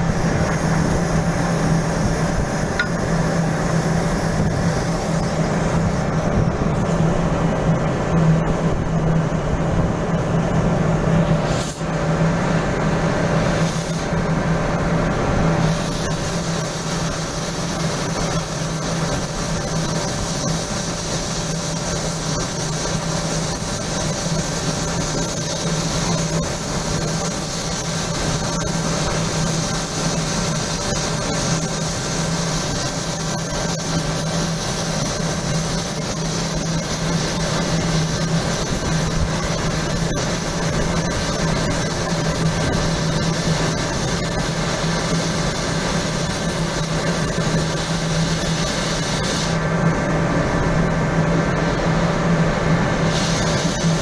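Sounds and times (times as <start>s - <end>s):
machinery hiss: 0.0s - 7.4s, 11.1s - 54.0s
machinery low hum: 0.0s - 32.9s, 35.4s - 54.0s.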